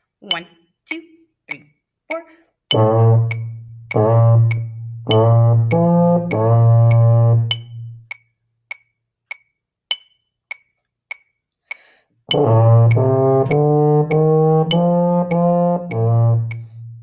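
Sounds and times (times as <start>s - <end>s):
metronome ticking: 0.2s - 17.0s.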